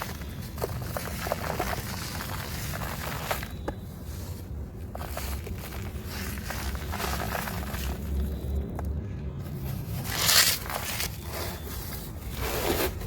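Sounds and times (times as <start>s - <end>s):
dry material crunching and crackling: 0.0s - 13.0s.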